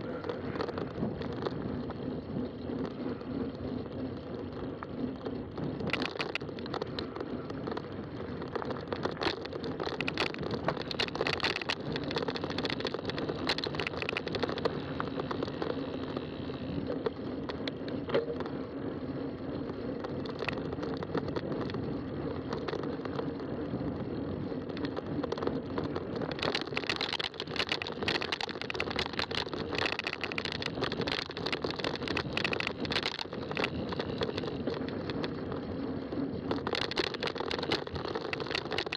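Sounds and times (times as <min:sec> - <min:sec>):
bicycle rattles and clicks: 0:00.0 - 0:38.9
bicycle tire noise on trail: 0:00.0 - 0:38.9.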